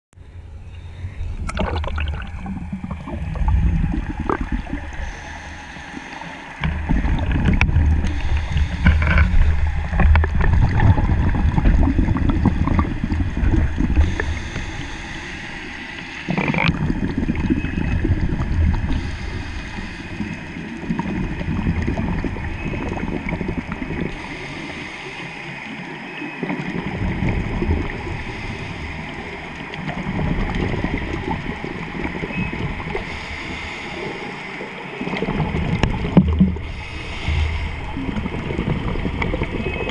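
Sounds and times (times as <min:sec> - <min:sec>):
underwater rumble: 0:00.2 - 0:39.9
regulator bubbles gurgling: 0:01.1 - 0:39.9.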